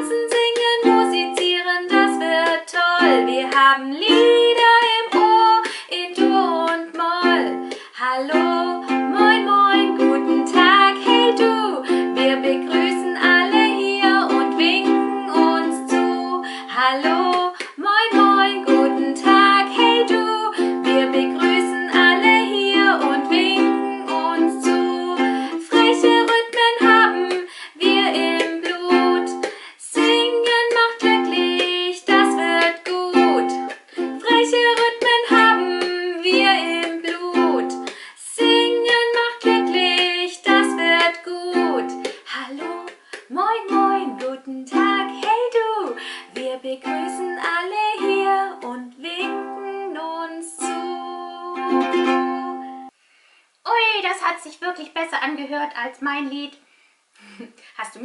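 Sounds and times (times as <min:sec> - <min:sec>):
ukulele strumming: 0:00.0 - 0:52.9
woman singing children's song: 0:00.0 - 0:52.9, 0:53.7 - 0:56.6, 0:57.4 - 0:58.0.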